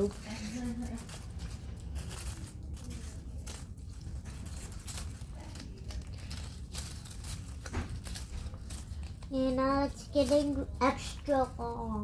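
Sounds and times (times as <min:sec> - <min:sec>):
hands rustling crinkly material: 0:00.0 - 0:12.0.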